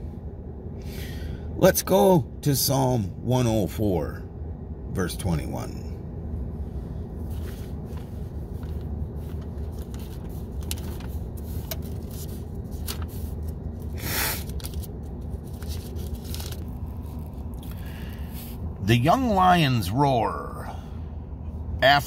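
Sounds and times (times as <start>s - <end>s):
car interior rumble: 0.0s - 22.0s.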